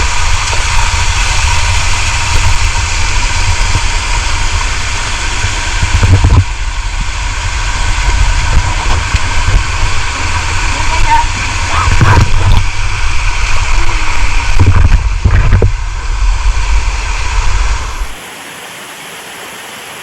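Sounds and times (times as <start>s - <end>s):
heavy low rumble: 0.0s - 18.2s
waterfall roaring: 0.0s - 20.0s.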